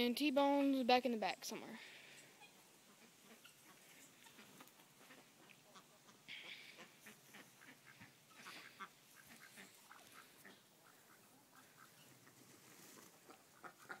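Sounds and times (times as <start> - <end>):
ducks quacking faintly: 1.7 - 14.0.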